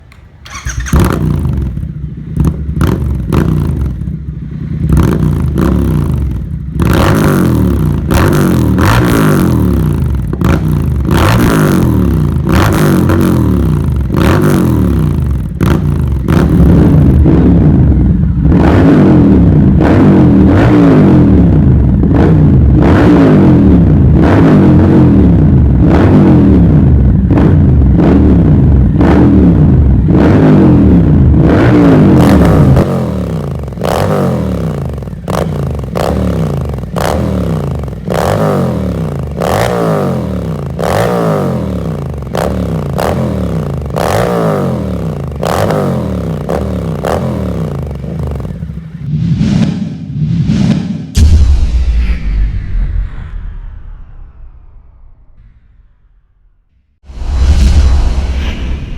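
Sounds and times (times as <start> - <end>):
motorcycle engine throttle blips: 0.0 - 49.1.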